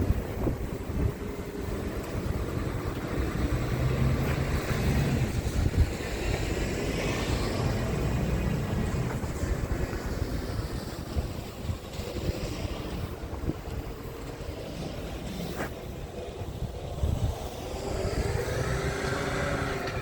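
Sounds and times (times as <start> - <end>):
diesel engine running: 0.0 - 20.0
wind rumbling on microphone: 0.0 - 20.0.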